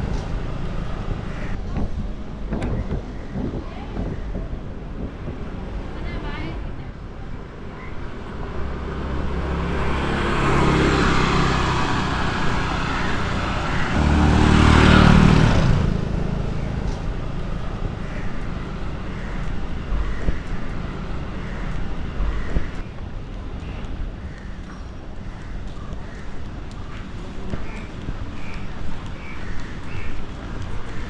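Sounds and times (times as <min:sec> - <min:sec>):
street noise: 0:00.0 - 0:31.0
traffic passing close by: 0:00.0 - 0:31.0.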